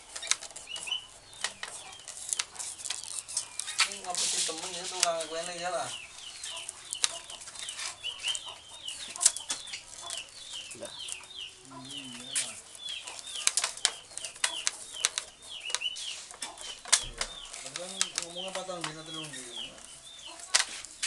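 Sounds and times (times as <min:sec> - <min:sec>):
rattan strips clicking and tapping: 0:00.0 - 0:21.0
small bird chirping: 0:00.0 - 0:21.0.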